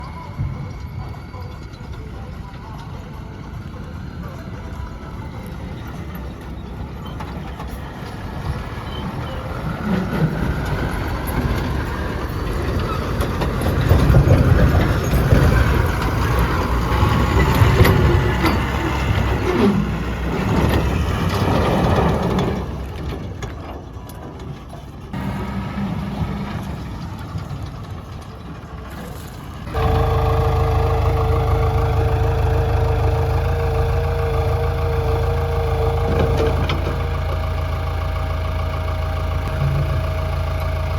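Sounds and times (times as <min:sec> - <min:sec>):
engine whine: 0:00.0 - 0:40.9
heavy diesel engines working: 0:00.0 - 0:40.9.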